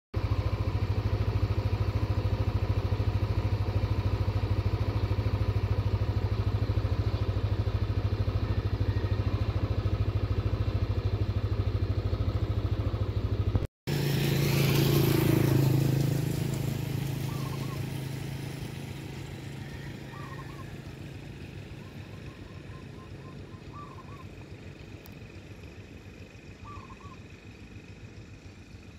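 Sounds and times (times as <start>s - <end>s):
louder engine: 0.2s - 28.9s
motorcycle engine running: 0.2s - 28.9s.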